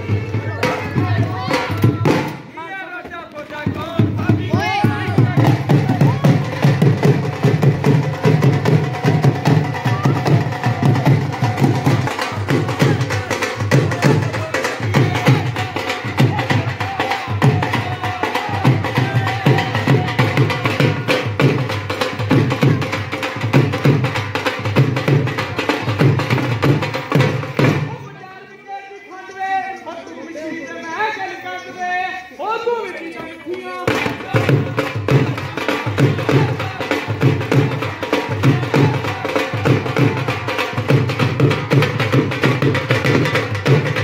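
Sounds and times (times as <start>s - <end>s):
drums beating: 0.0s - 28.1s, 33.4s - 44.0s.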